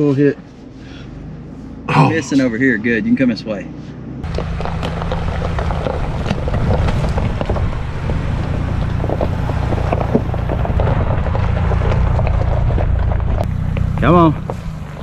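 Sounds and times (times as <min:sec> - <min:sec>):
engine low drone: 0:00.0 - 0:15.0.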